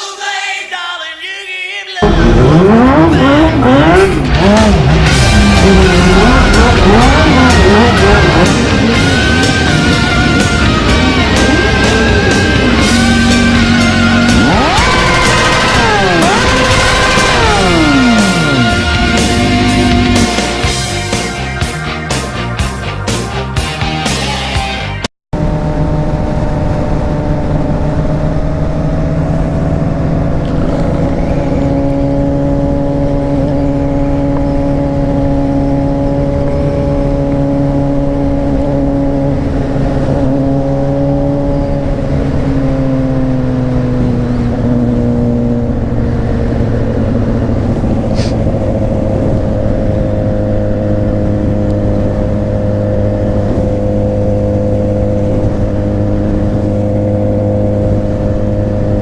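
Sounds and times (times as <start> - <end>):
motorcycle engine cruising: 2.0 - 59.0.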